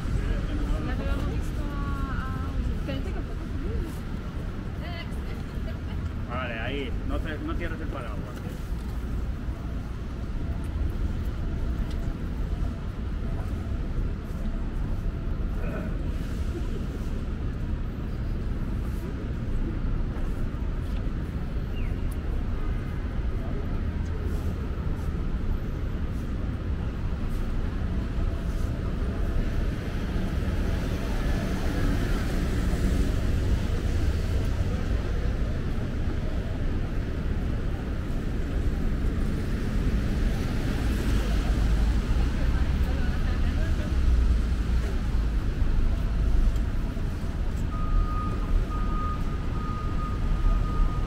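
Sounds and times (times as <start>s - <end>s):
faint voices of passers-by: 0.0s - 51.0s
traffic rumble: 0.0s - 51.0s.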